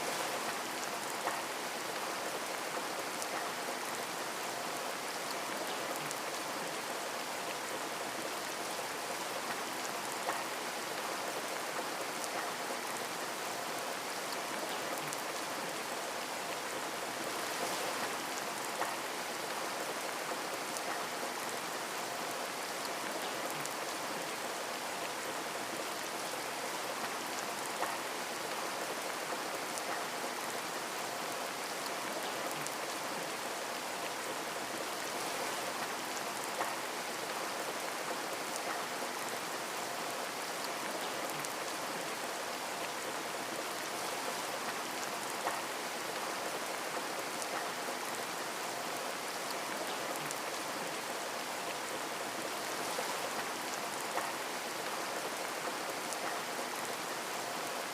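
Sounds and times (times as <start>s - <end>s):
rain pattering on a window: 0.1s - 57.9s.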